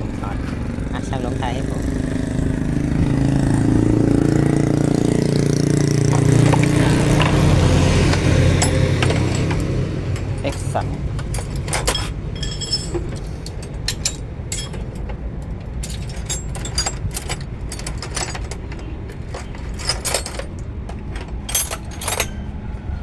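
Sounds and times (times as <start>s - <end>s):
metal tools clinking: 3.2s - 22.6s.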